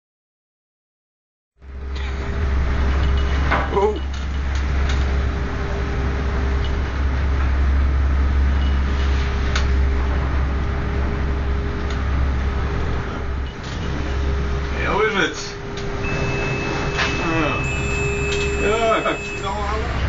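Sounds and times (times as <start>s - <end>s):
ship engine drone: 1.6s - 20.0s.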